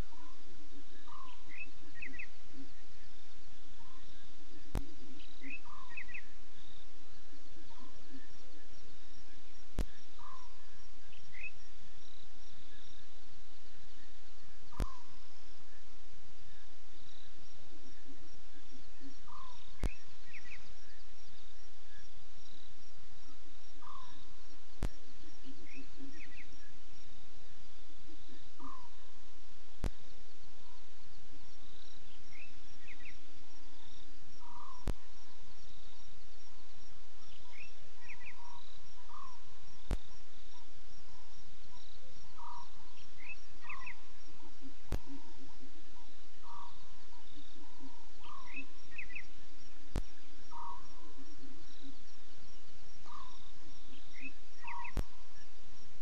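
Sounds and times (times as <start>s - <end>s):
steady insect trill: 0.0s - 56.0s.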